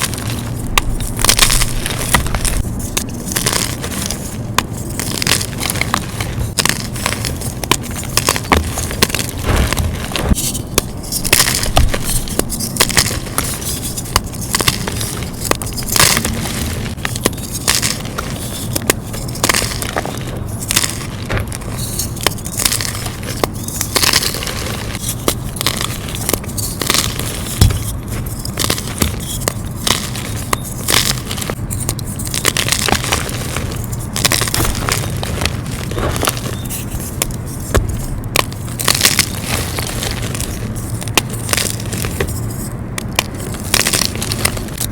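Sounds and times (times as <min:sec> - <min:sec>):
chalk crunching: 0:00.0 - 0:44.9.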